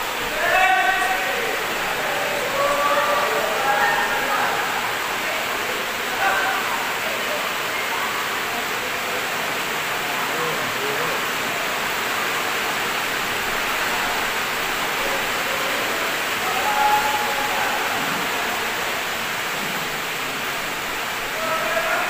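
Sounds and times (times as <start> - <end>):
faint voices: 0.0 - 22.0
rushing hall background noise: 0.0 - 22.0.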